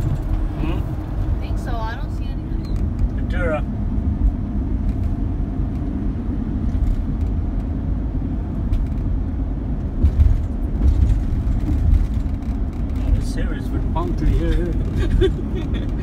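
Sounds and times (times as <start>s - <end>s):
van road and engine rumble: 0.0s - 16.0s.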